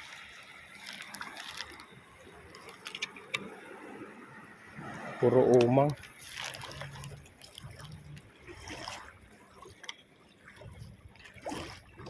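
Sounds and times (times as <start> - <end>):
seawater sloshing and dripping: 0.0 - 12.0.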